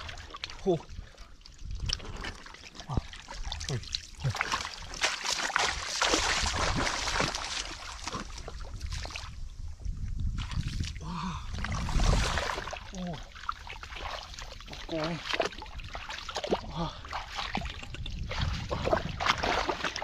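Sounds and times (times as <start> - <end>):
person wading through muddy water: 0.0 - 20.0.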